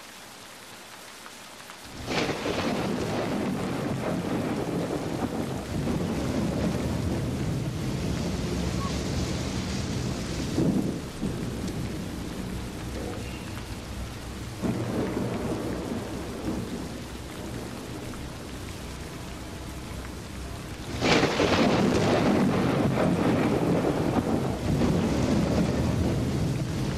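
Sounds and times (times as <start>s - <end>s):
steady rain: 0.0s - 26.9s
rumble of thunder: 1.9s - 26.9s.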